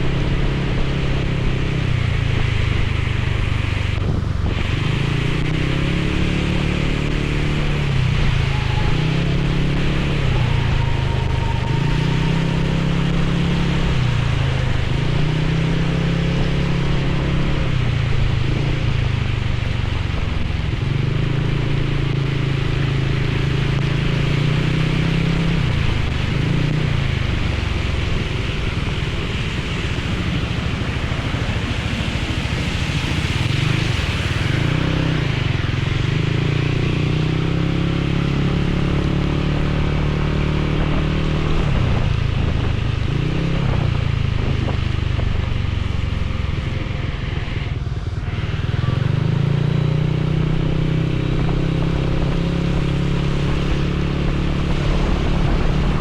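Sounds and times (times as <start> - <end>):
motorcycle engine revving: 0.0 - 56.0
wind and rain hiss: 0.0 - 56.0.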